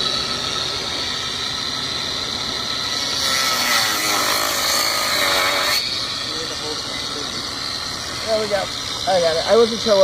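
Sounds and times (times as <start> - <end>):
angle grinder grinding metal: 0.0 - 10.0.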